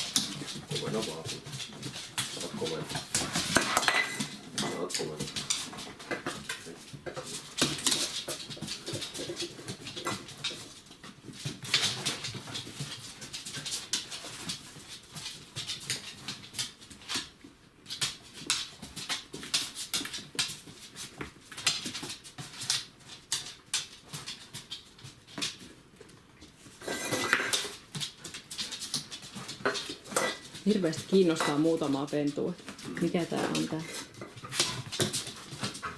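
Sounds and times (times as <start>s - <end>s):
puppy paws clicking and knocking: 0.0s - 35.9s.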